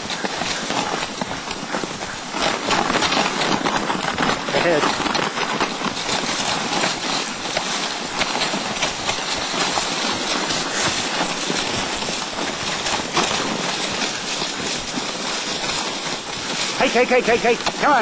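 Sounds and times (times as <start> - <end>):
sled clattering and knocking: 0.0 - 18.0
sled runners scraping on snow: 0.0 - 18.0.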